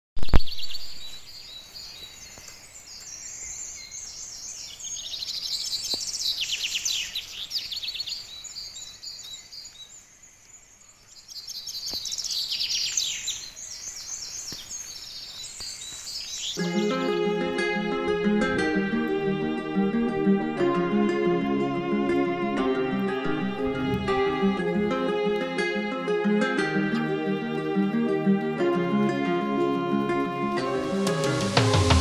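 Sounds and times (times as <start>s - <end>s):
songbirds chirping and singing: 1.0s - 32.0s.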